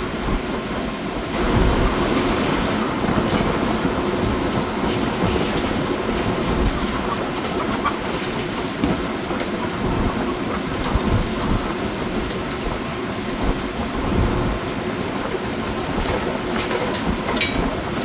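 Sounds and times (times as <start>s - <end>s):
machinery clattering rumble: 1.3s - 18.0s.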